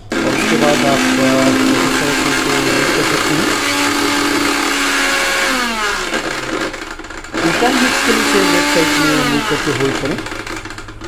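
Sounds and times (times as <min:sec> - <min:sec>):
mixer grinder motor whirring: 0:00.0 - 0:11.0.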